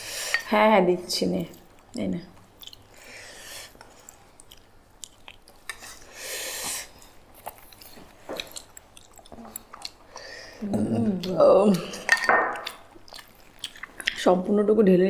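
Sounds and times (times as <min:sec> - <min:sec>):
people chewing food: 0:01.4 - 0:14.5.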